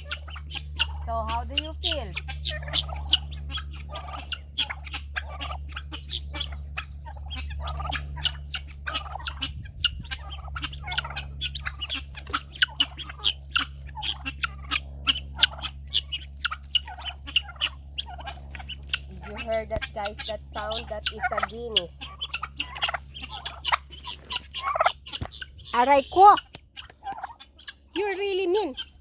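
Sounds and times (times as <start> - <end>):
guinea fowl calling: 0.0 - 29.0
steady low hum: 0.0 - 29.0.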